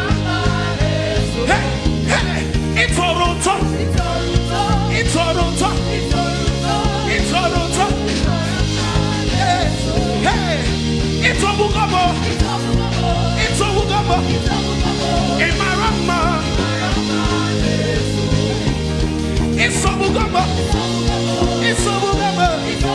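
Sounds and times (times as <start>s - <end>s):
band playing gospel worship song: 0.0s - 22.9s.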